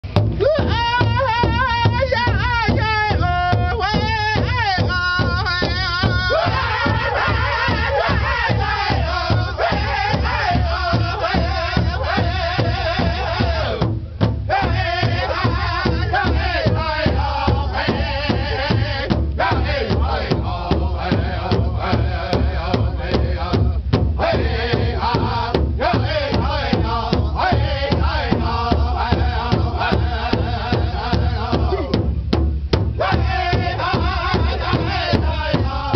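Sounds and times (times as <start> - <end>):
large drum steady beat: 0.0 - 35.9
lead voice singing: 0.4 - 35.9
group singing in high voices: 0.7 - 13.9, 14.5 - 32.1, 32.9 - 35.9.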